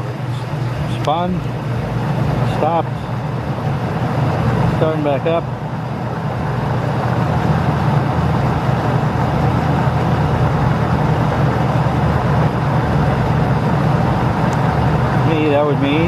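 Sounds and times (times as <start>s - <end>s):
washer motor humming: 0.0s - 16.0s.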